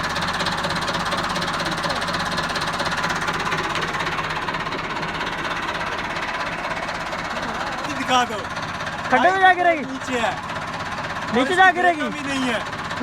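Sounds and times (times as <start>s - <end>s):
diesel tractor engine knocking: 0.0s - 13.0s.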